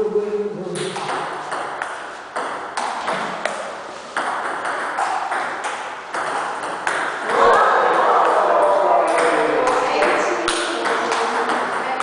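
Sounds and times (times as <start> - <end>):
table tennis ball hits: 0.8 - 12.0.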